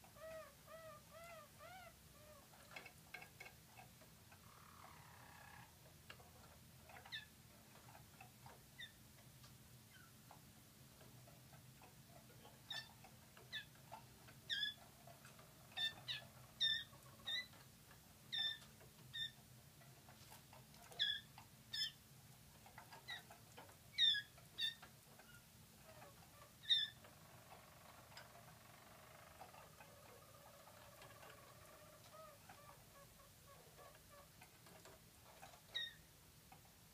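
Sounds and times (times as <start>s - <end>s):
canaries chirping: 0.0s - 9.1s, 9.8s - 36.7s.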